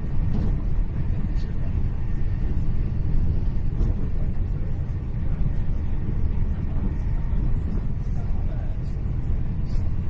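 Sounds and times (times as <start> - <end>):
train rumbling inside carriage: 0.0 - 10.0.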